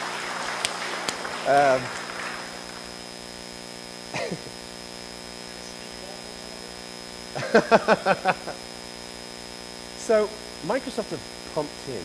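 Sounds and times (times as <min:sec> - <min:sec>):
electrical hum: 0:00.0 - 0:12.0
faint high whine: 0:00.0 - 0:12.0.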